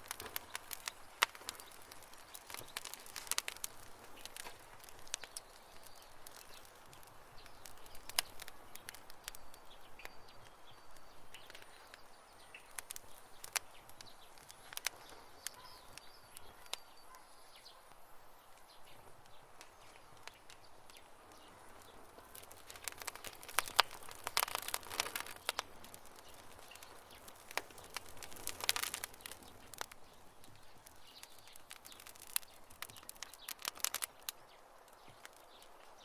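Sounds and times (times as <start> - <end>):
fire hissing: 0.0 - 16.8, 18.0 - 35.7
campfire crackling and popping: 0.0 - 36.0.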